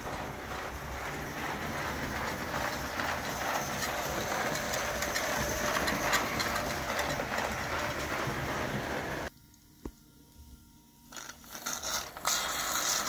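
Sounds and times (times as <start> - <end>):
toy train wheels clattering on rail: 0.0 - 9.3, 11.2 - 13.0.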